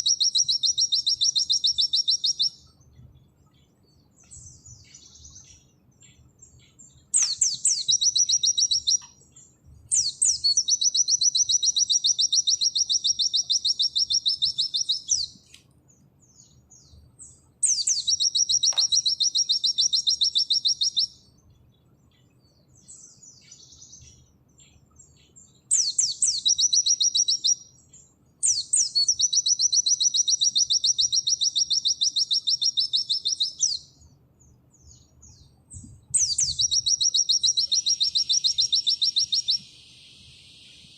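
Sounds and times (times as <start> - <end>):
bird singing fast trills: 0.0 - 40.9
soft bird twittering: 0.0 - 40.9.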